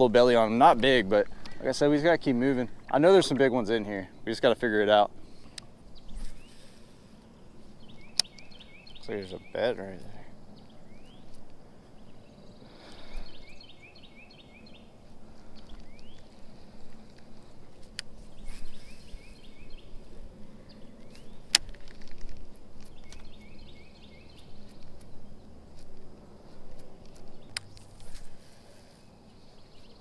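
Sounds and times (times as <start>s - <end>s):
outdoor background noise: 0.0s - 30.0s
songbird chirping: 0.0s - 30.0s.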